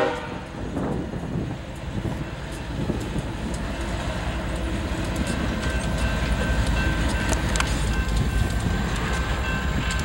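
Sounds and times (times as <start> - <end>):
rail wheels rumbling on track: 0.0 - 10.0.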